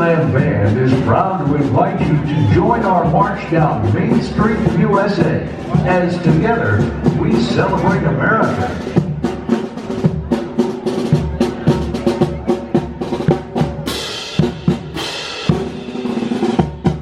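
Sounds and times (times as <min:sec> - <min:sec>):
snare and bass drums: 0:00.0 - 0:17.0.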